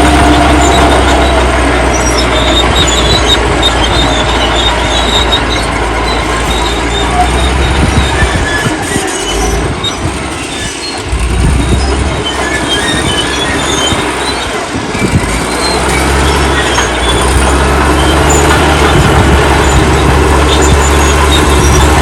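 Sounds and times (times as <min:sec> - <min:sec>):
bulldozer engine drone: 0:00.0 - 0:22.0
mechanical rumble: 0:00.0 - 0:22.0
steel tracks squeaking: 0:00.0 - 0:22.0.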